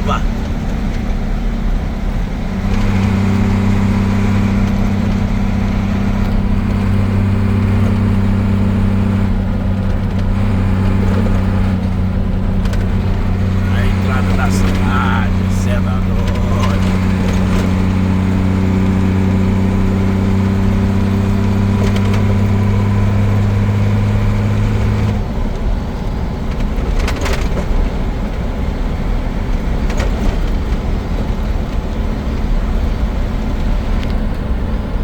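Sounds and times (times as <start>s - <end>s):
road noise rumble: 0.0s - 35.0s
truck engine hum: 0.0s - 35.0s.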